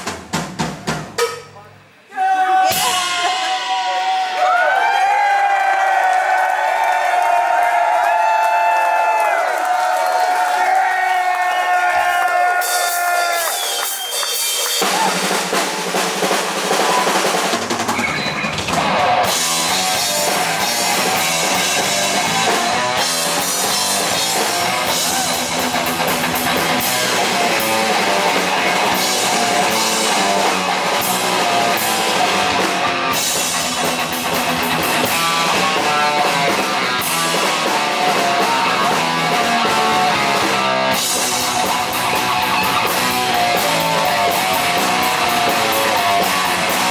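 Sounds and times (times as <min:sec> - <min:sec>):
heavy metal band playing: 0:02.4 - 0:06.4, 0:12.0 - 0:46.9.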